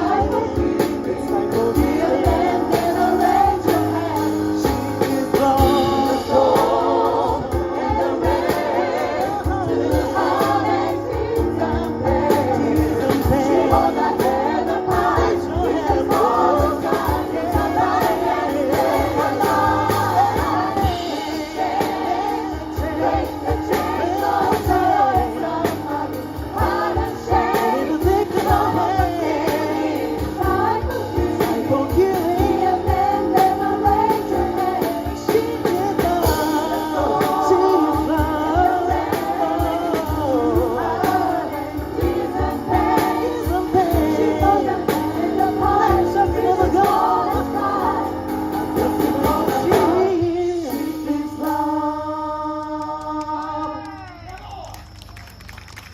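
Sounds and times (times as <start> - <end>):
gospel choir singing: 0.0 - 53.8
percussion with steady beat: 0.0 - 54.3
keyboard: 0.0 - 55.9.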